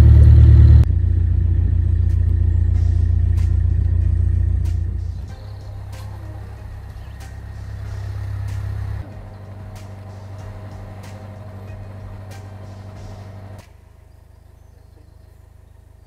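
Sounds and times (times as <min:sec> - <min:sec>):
boat diesel engine running: 0:00.0 - 0:13.6.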